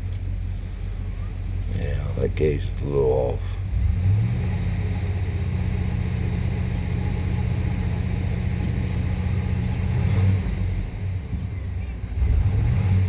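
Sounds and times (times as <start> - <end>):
engine idling with stumble: 0.0 - 13.0.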